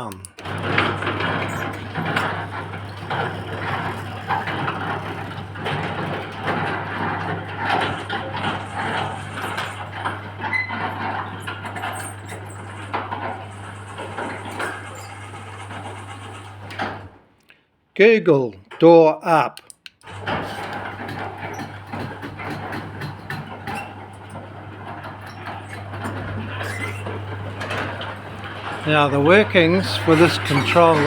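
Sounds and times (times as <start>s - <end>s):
garage door rattling: 0.0s - 17.3s, 20.0s - 31.0s
garage door opener motor hum: 0.0s - 17.4s, 20.0s - 31.0s.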